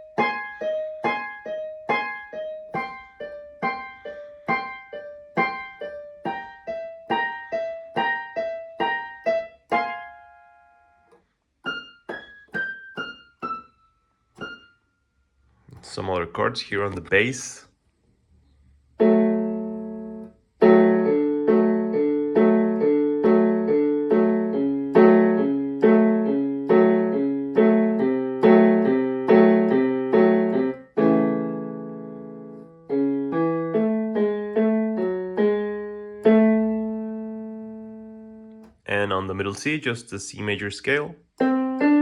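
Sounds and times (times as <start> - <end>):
keyboard piano chords: 0.0 - 14.9, 18.9 - 42.0.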